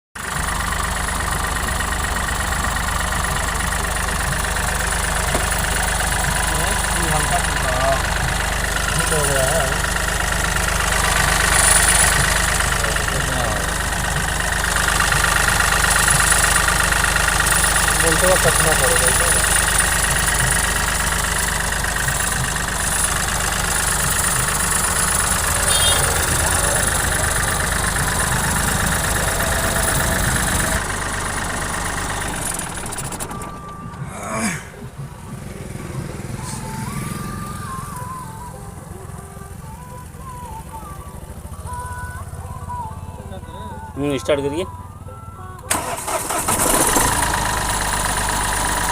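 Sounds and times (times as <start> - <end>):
vehicle engine idling: 0.2 - 48.9.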